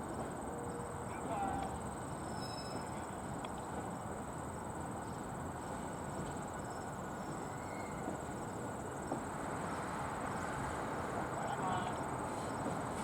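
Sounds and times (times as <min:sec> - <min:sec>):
slow train rumble: 0:00.0 - 0:13.0.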